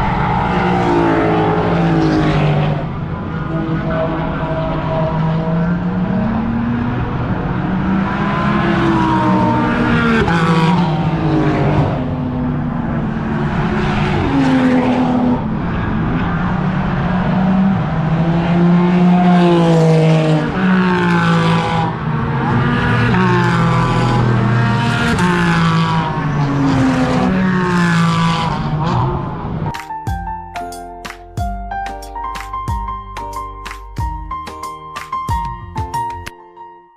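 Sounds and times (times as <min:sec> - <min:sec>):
race car engines revving: 0:00.0 - 0:29.7.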